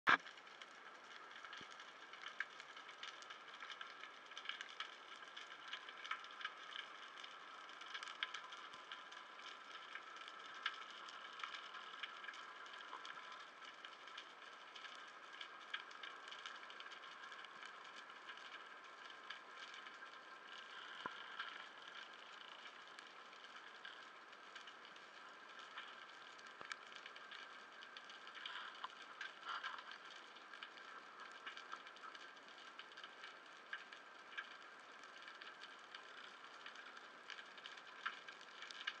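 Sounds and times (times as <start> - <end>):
small clicks and crackles: 0.1 - 39.0.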